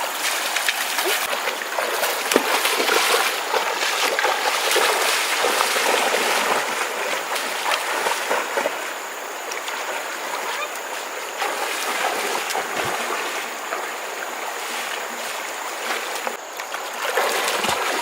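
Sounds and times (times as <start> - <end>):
small water splashes: 0.0 - 18.0
stream water running: 0.0 - 18.0.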